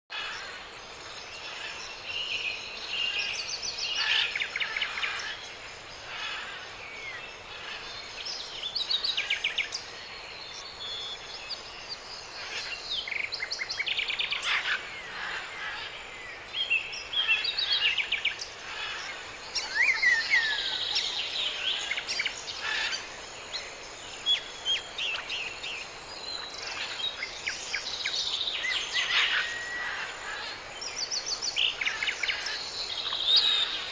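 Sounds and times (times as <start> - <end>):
birds chirping trills: 0.1 - 33.9
steady background hiss: 0.2 - 33.9.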